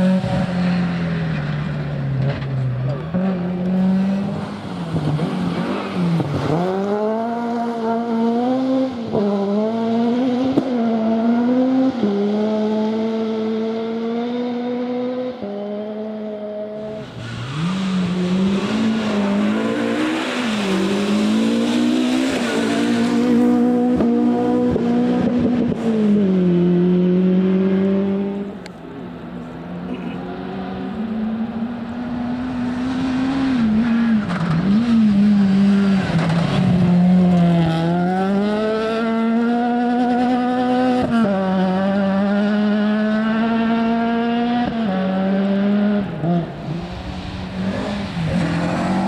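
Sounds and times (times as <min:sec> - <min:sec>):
car rushing past: 0:00.0 - 0:49.0
rally car engines at full throttle: 0:00.0 - 0:49.0.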